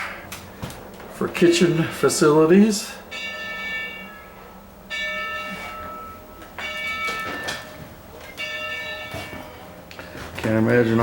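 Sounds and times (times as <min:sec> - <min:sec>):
large bell ringing: 0:01.4 - 0:11.0.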